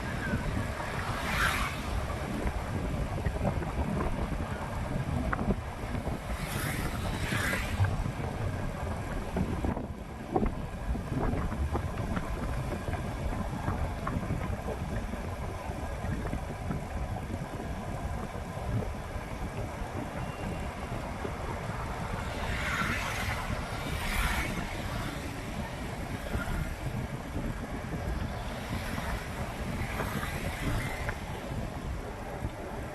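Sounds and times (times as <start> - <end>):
street traffic: 0.0 - 32.9
wind buffeting microphone: 0.0 - 32.9.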